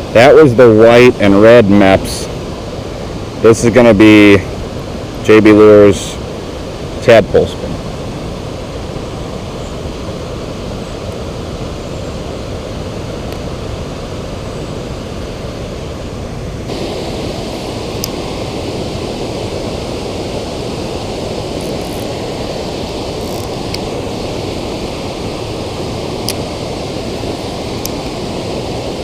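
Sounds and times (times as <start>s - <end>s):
river water rushing over spillway: 0.0s - 29.0s.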